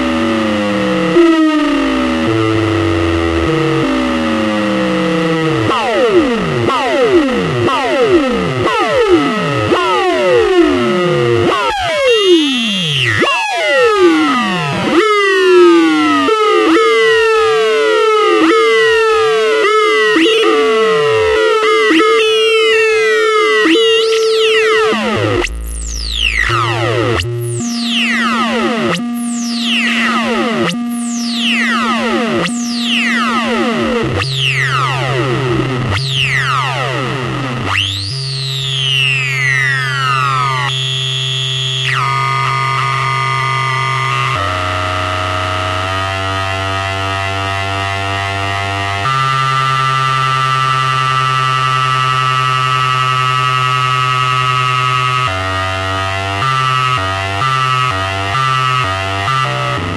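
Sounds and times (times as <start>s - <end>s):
synthesizer drone note: 0.0s - 59.9s
synthesizer falling pitch sweep: 0.0s - 59.9s.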